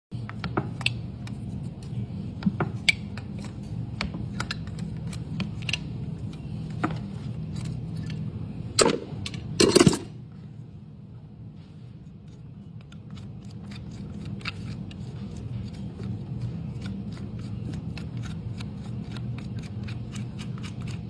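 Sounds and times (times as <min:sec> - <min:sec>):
steady low hum: 0:00.1 - 0:21.0.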